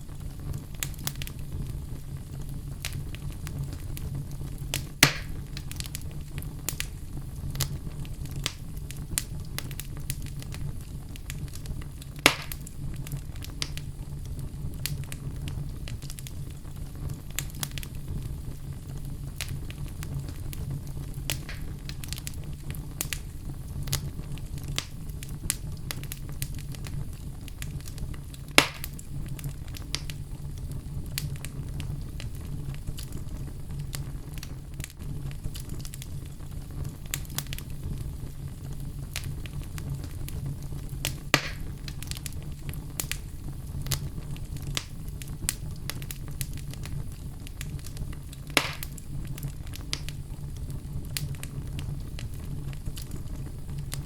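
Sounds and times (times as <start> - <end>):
fire crackling: 0.0 - 54.0
loud fire pops: 0.0 - 54.0
low rumble of flames: 0.0 - 54.0.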